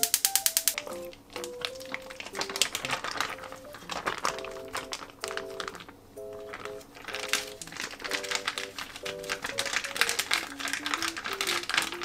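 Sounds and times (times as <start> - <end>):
rapid even clicking: 0.0 - 12.0
scattered taps: 0.0 - 12.0
soft background music: 0.0 - 12.0
plastic bag crinkling: 0.7 - 12.0.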